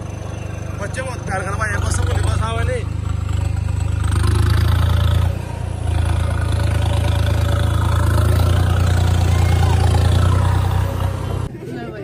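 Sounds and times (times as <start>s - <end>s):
tractor diesel engine droning: 0.0s - 11.5s.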